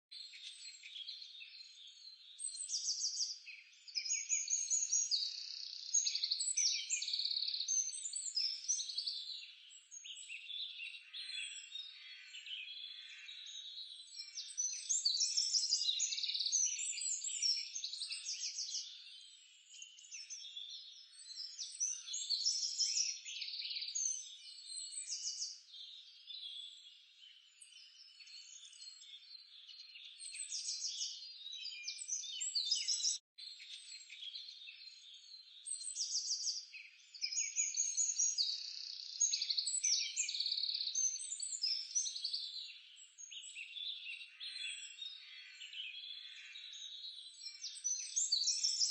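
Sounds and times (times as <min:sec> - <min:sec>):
birds chirping and trilling: 0:00.2 - 0:48.9.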